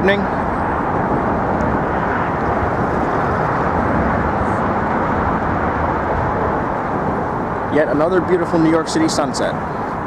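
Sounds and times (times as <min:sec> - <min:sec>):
roar of traffic: 0:00.0 - 0:10.0.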